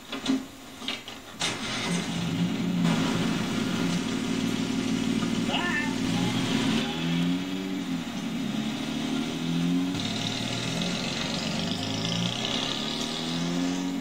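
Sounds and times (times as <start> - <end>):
car engine pulling away: 1.4 - 14.0.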